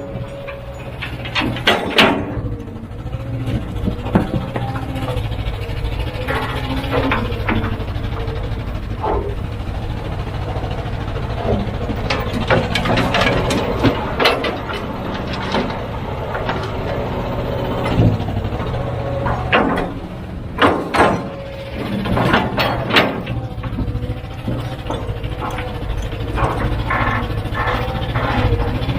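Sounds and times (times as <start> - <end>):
sharp metal knocks and clanks: 0.0 - 2.8, 3.4 - 28.9
heavy diesel engine running: 0.0 - 28.9.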